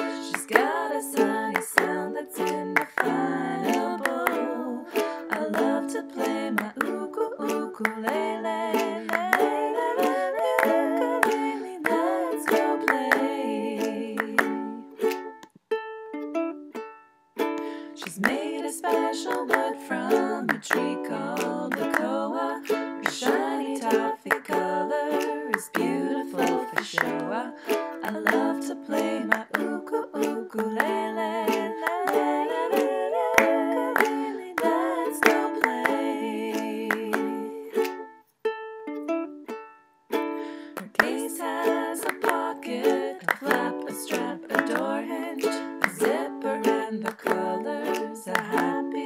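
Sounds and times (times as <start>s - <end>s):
ukulele strumming: 0.0s - 49.0s.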